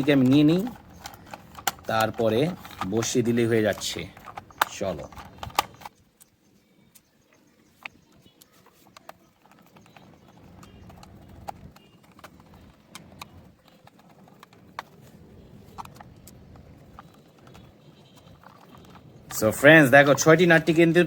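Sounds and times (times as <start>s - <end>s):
soft rubbing of handling: 0.0s - 6.3s, 6.9s - 20.9s.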